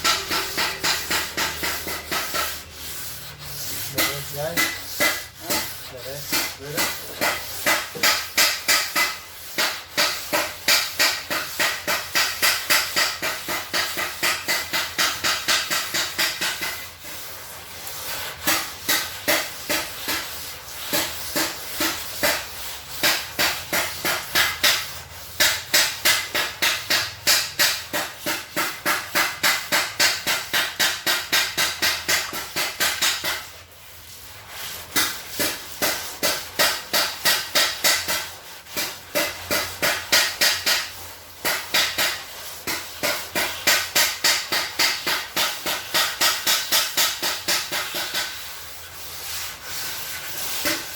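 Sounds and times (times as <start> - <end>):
sandpaper scraping on metal panel: 0.0 - 50.9.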